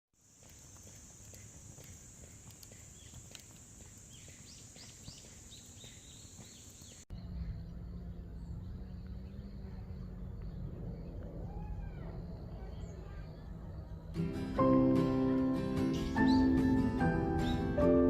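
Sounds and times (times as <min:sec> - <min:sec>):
low outdoor hum: 0:00.2 - 0:15.2
birds chirping: 0:00.2 - 0:18.0.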